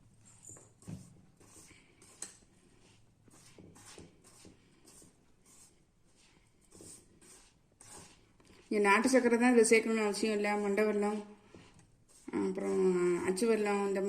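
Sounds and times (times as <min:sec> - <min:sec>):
powder scraping in a pan: 0:00.7 - 0:14.0.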